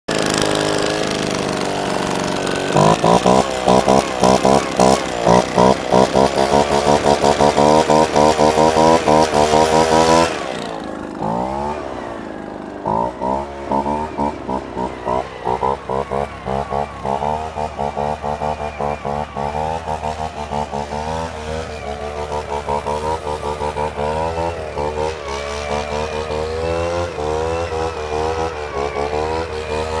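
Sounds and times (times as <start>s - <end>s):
leaf blower engine revving: 0.1s - 30.0s.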